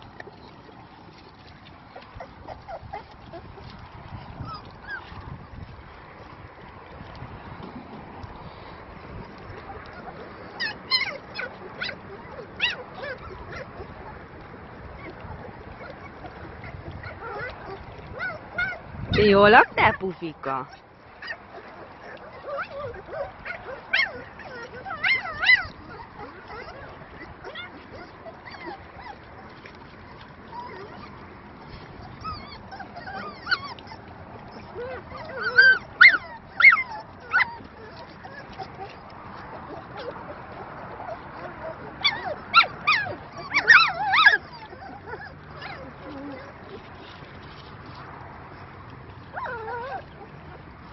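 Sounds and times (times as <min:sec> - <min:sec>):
puppies whimpering and yipping: 0:00.0 - 0:06.4, 0:08.0 - 0:50.9.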